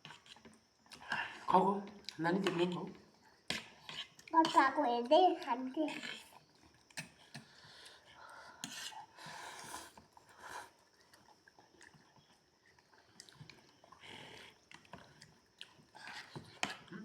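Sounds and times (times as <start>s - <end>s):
faint chewing: 0.0s - 17.0s.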